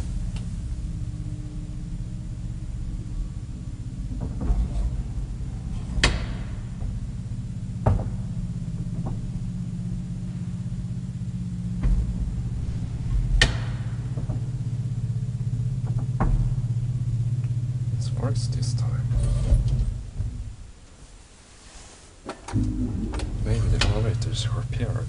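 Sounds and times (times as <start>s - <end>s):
elevator low hum: 0.0s - 25.0s.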